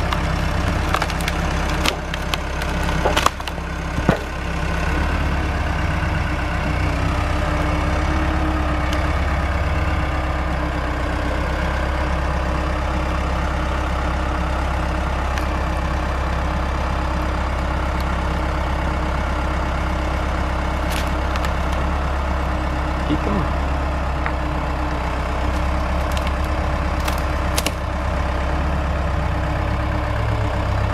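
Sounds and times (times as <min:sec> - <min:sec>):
heavy machine engine running: 0:00.0 - 0:30.9.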